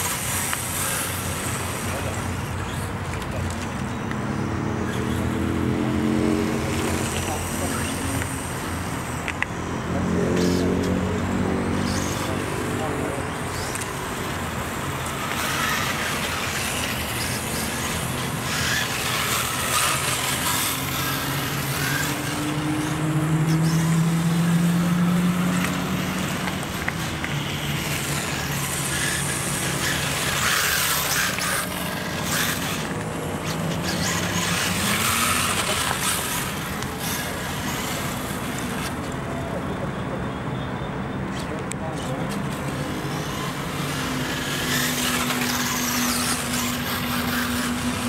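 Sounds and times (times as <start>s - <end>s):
model car motors revving: 0.0s - 40.5s, 41.2s - 48.0s.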